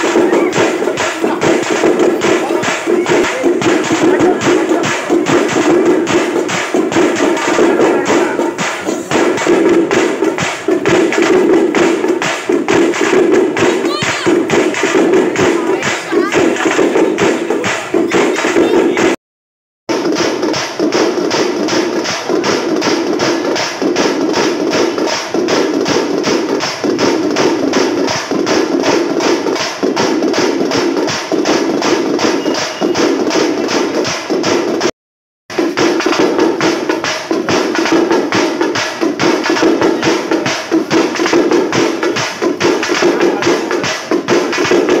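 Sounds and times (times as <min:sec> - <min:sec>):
loud fast drumming: 0:00.0 - 0:19.2, 0:19.9 - 0:34.9, 0:35.5 - 0:45.0.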